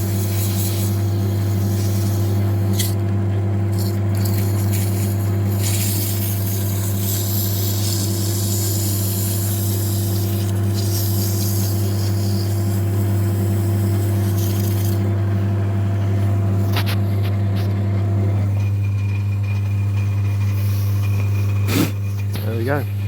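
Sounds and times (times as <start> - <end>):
lathe humming: 0.0 - 23.0.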